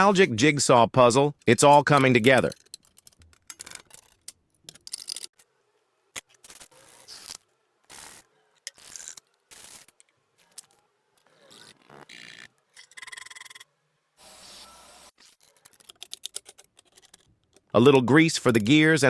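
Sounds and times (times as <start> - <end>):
metal parts scraping and rubbing: 0.0 - 0.3, 1.5 - 17.3.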